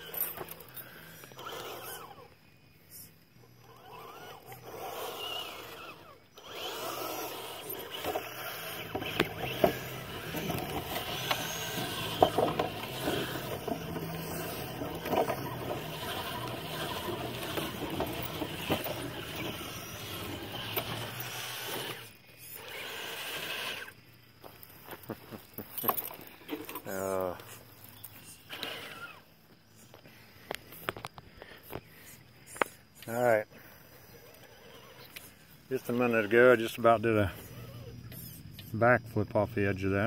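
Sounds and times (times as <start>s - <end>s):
electric motor and gears whining: 0.0s - 40.0s.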